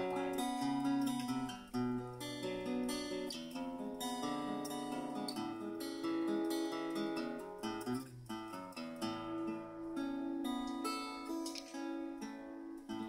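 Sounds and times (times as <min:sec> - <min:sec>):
acoustic guitar played solo: 0:00.0 - 0:13.0.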